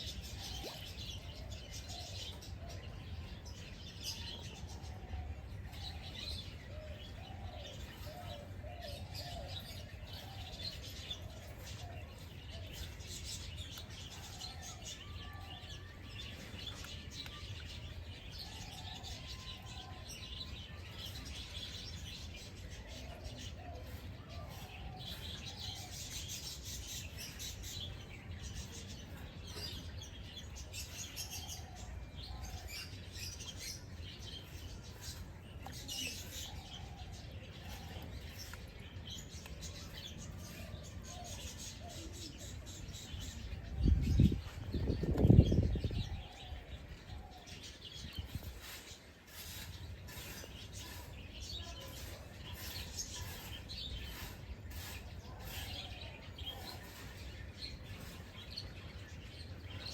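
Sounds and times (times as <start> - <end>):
birds chirping and tweeting: 0.0 - 59.9.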